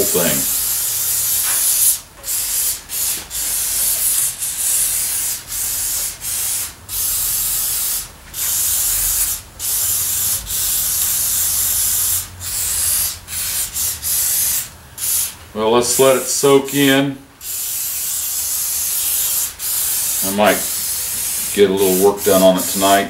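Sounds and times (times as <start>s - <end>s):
aerosol can spraying: 0.0s - 15.4s, 17.4s - 23.0s.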